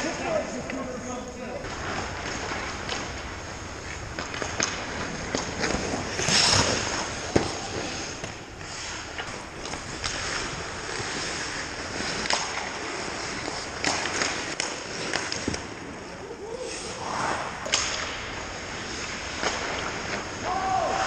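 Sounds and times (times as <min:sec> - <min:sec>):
hockey sticks striking puck: 0:00.0 - 0:16.0, 0:16.6 - 0:21.0
skates scraping on ice: 0:00.0 - 0:21.0.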